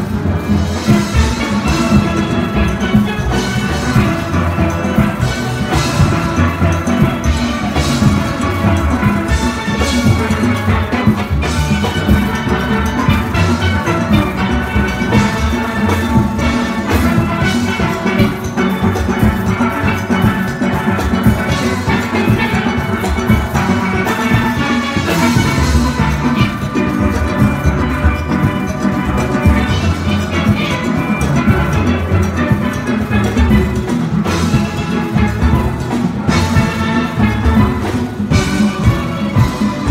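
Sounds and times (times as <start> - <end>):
steel band playing: 0.0 - 39.9.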